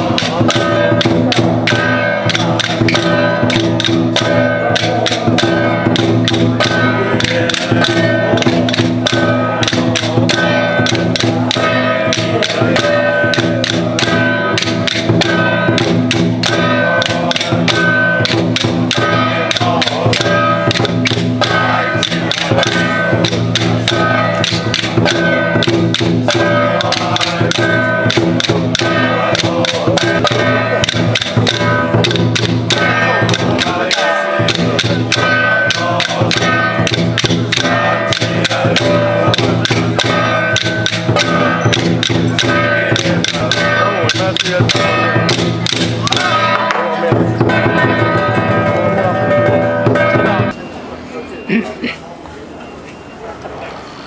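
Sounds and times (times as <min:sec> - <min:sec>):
fast percussion strikes: 0:00.0 - 0:50.6
sustained instrumental tones: 0:00.0 - 0:54.0.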